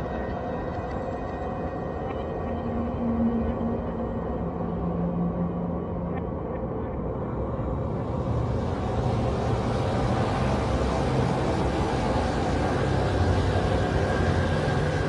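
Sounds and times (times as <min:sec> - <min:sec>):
low rumbling drone: 0:01.6 - 0:15.0.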